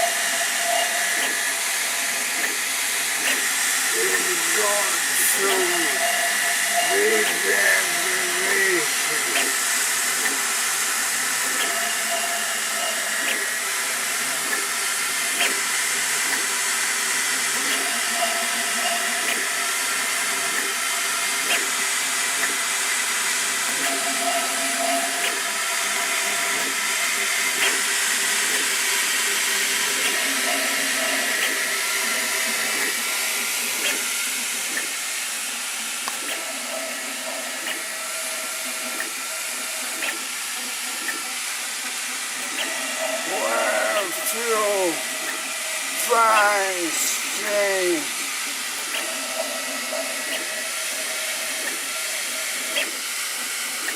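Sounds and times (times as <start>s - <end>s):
printer fan hiss: 0.0s - 53.9s.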